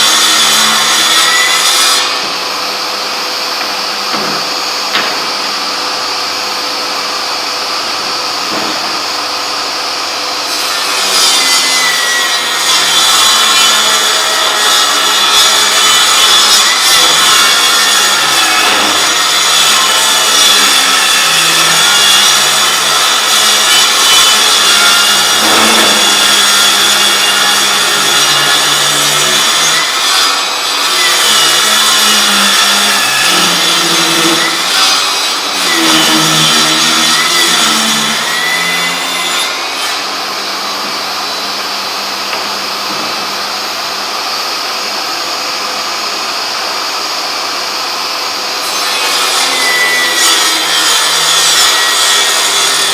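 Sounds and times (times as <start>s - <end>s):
table saw blade whine cutting wood: 0.0s - 52.9s.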